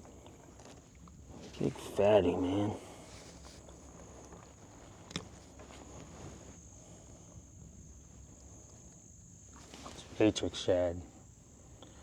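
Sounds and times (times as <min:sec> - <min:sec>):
faint high-pitched hum: 0:00.0 - 0:12.0.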